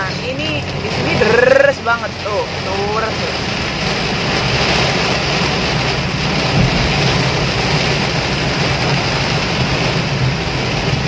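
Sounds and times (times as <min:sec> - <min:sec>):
heavy rain drumming on car: 0:00.0 - 0:11.0
low rumble of car: 0:00.0 - 0:11.0.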